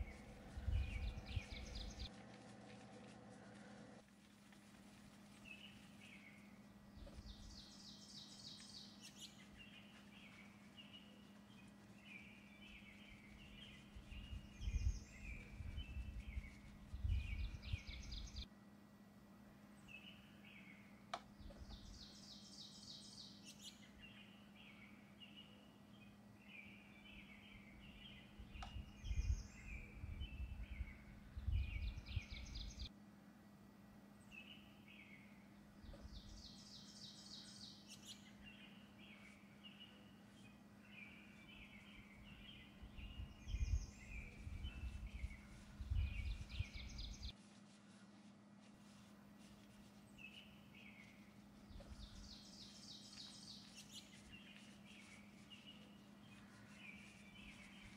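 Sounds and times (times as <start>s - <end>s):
faint birds chirping and trilling: 0.0s - 57.9s
steady low hum: 0.0s - 57.9s.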